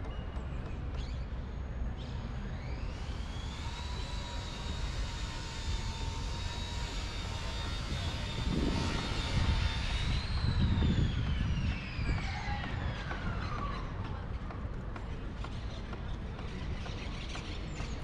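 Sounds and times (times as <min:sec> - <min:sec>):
high engine whine: 0:00.0 - 0:18.0.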